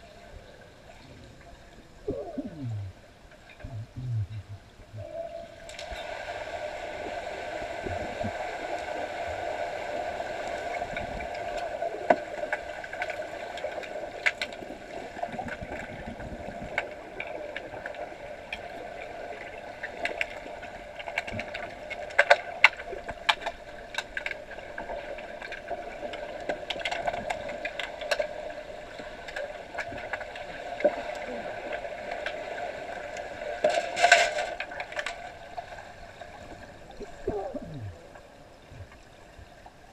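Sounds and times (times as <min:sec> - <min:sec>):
underwater hum: 0:00.0 - 0:39.9.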